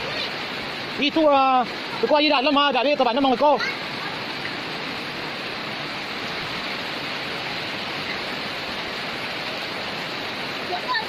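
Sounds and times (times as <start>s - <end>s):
floodwater flowing: 0.0s - 11.0s
rain falling: 0.0s - 11.0s.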